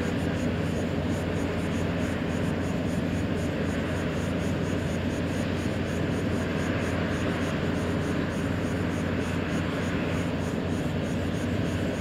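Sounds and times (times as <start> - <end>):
distant jet engine noise: 0.0 - 12.0.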